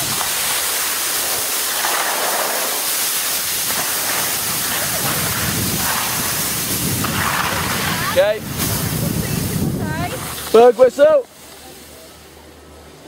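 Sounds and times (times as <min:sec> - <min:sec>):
skis scraping over snow: 0:00.0 - 0:12.1.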